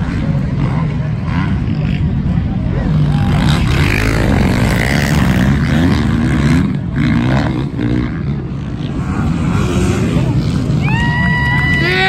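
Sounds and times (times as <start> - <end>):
dirt bike engines racing by: 0.0 - 12.0.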